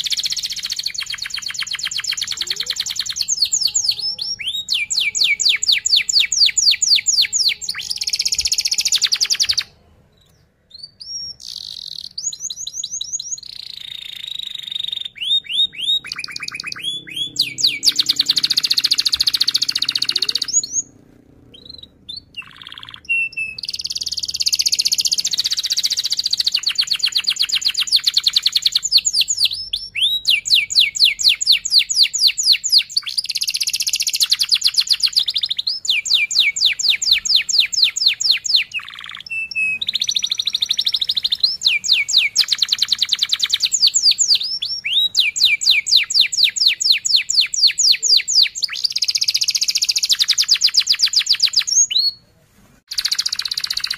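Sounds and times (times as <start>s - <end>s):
canary singing trills: 0.0s - 52.2s, 52.9s - 53.9s.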